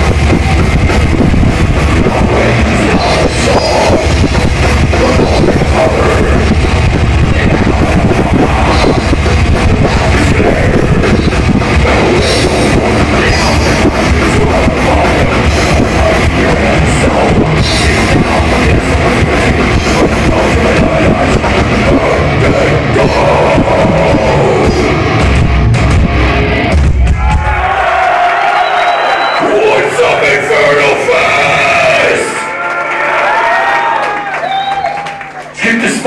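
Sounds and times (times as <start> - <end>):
drum kit: 0.0 - 30.0
distorted electric guitars: 0.0 - 36.0.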